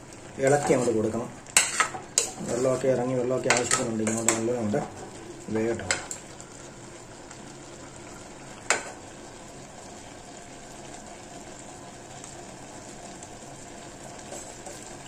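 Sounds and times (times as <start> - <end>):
vegetables sizzling in pot: 0.0 - 15.0.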